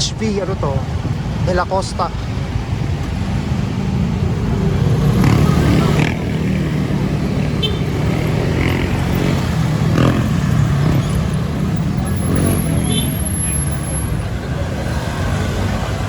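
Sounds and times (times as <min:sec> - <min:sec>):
cars and motorcycles passing: 0:00.0 - 0:16.0
road traffic engine rumble: 0:00.0 - 0:16.0.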